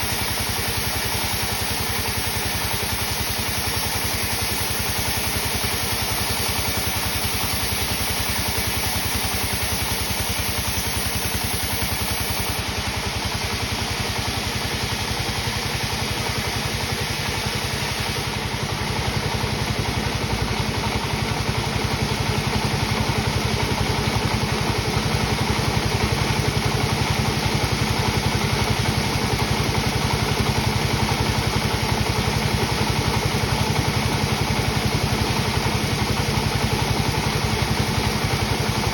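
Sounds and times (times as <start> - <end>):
sawmill machinery droning: 0.0 - 38.9.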